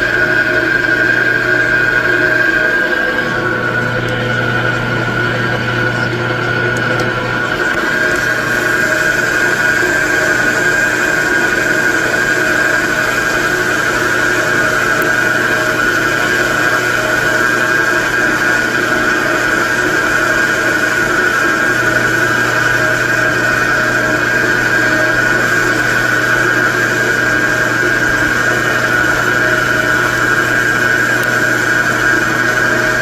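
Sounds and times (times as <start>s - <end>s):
low machine hum: 0.0s - 33.0s
metal lathe whine: 0.0s - 33.0s.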